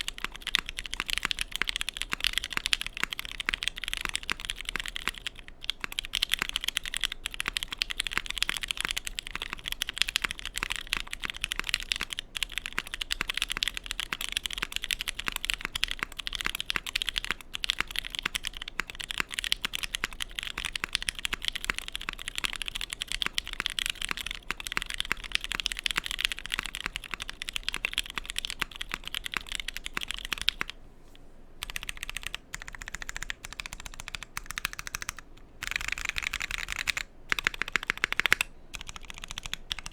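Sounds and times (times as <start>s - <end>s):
mechanical keyboard typing: 0.0s - 30.8s, 31.6s - 39.9s.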